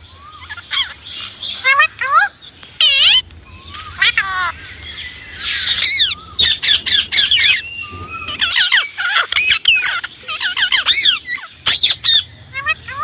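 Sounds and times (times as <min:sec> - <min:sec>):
parakeet squawking: 0:00.4 - 0:08.8, 0:09.4 - 0:13.0.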